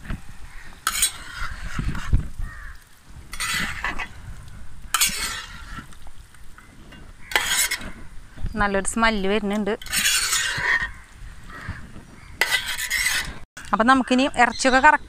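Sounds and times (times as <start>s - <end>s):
masala sizzling: 0.0s - 14.5s
metal spatula scraping a pan: 0.5s - 13.5s.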